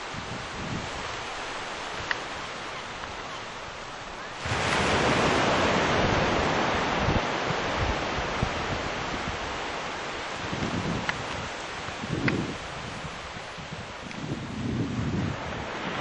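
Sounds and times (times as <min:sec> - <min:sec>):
low buffeting gusts: 0:00.0 - 0:16.0
wind rushing over microphone: 0:00.0 - 0:16.0.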